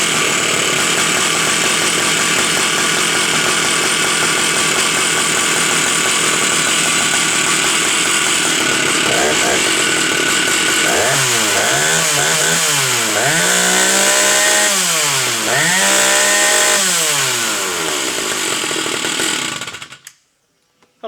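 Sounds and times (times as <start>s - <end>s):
chainsaw engine revving: 0.0s - 20.1s.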